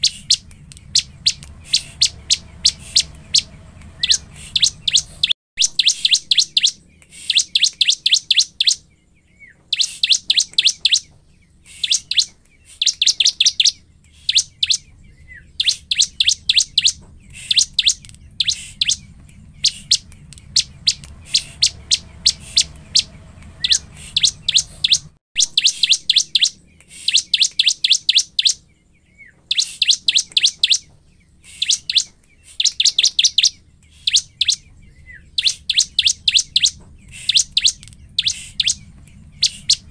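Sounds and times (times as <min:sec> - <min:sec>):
bird singing sharp high notes: 0:00.0 - 0:39.9.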